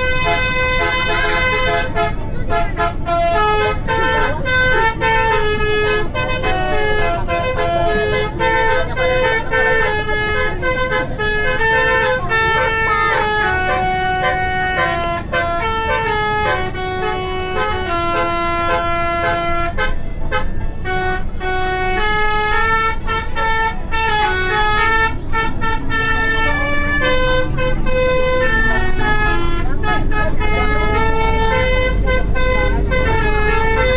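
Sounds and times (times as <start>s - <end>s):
horn-like tune: 0.0s - 33.9s.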